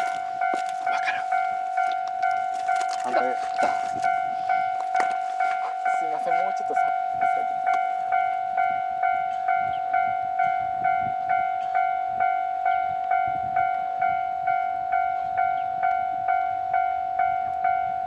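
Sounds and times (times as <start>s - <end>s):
level-crossing bell clanging: 0.0s - 18.0s.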